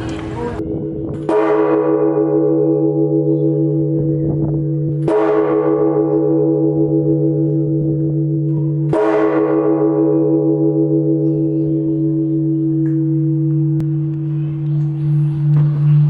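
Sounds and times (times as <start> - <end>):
church bell clanging: 0.0 - 16.0
deep bell hum: 0.4 - 16.0.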